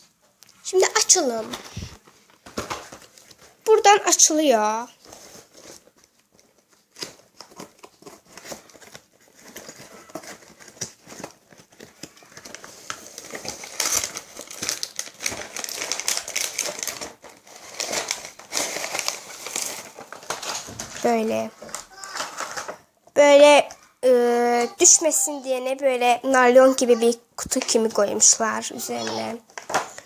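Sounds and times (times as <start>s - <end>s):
plastic cover crinkling: 0.6s - 23.8s, 25.8s - 30.0s.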